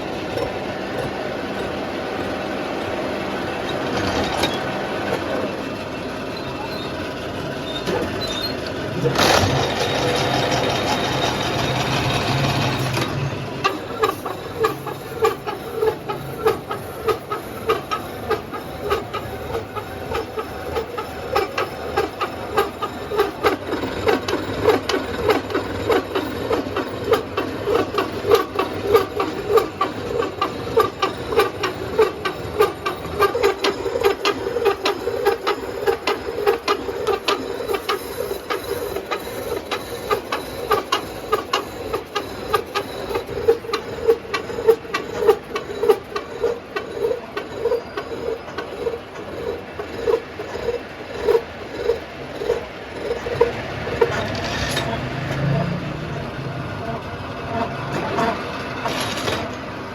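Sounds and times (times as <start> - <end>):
metal-cutting machine clattering: 6.4 - 59.7.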